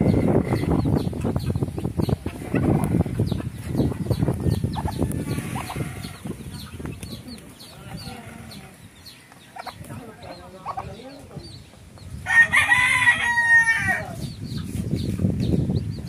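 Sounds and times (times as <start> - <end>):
chicks peeping: 0.0 - 16.0
hen clucking: 0.0 - 16.0.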